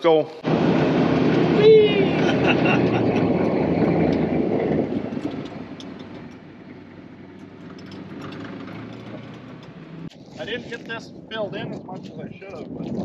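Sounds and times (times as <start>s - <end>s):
vehicle engine driving: 0.4s - 13.0s.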